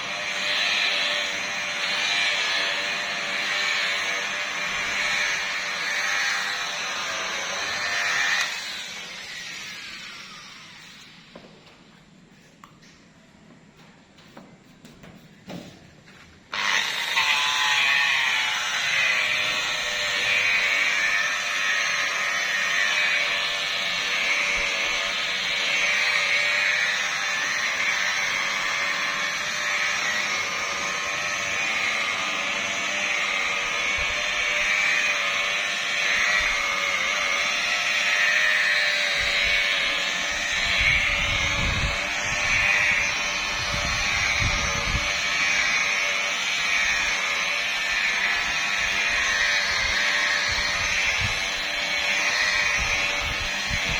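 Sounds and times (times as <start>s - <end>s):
car polisher whine: 0.0s - 12.4s, 15.5s - 53.9s.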